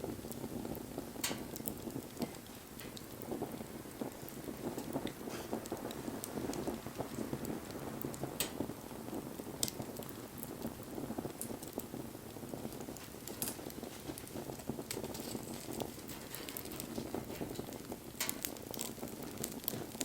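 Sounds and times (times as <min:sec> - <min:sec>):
sharp pops of fire: 0:00.0 - 0:20.0
wood fire crackling: 0:00.0 - 0:20.0.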